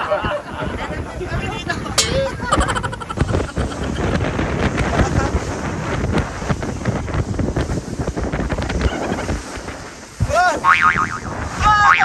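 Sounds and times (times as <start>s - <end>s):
wind buffeting microphone: 0.0s - 12.0s
water rushing past hull: 0.4s - 12.0s.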